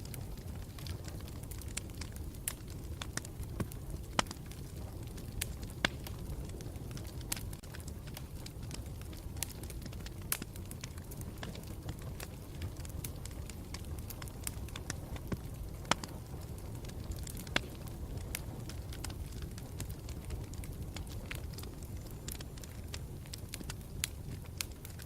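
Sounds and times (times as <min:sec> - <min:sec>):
burning wood crackling: 0:00.0 - 0:25.0
campfire flames rumbling: 0:00.0 - 0:25.0.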